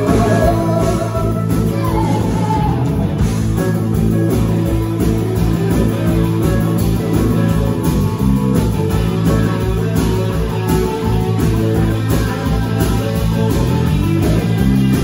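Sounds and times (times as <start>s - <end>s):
bass: 0.0s - 15.0s
drum kit beat: 0.0s - 15.0s
electric guitar: 0.0s - 15.0s.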